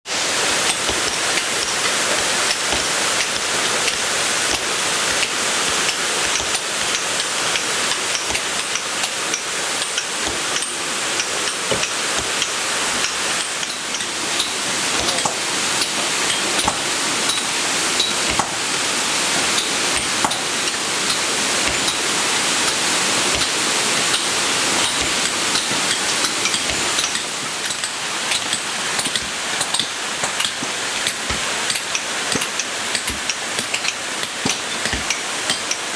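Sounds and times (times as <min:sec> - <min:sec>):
rush of falling water: 0:00.1 - 0:35.9.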